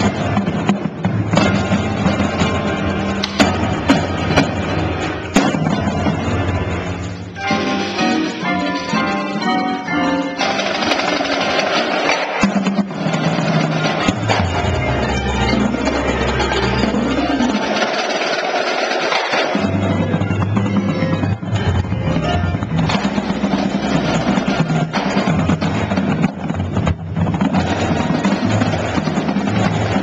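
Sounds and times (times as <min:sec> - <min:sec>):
drumline drums: 0:00.0 - 0:30.0
pitched keyboard percussion: 0:00.0 - 0:30.0.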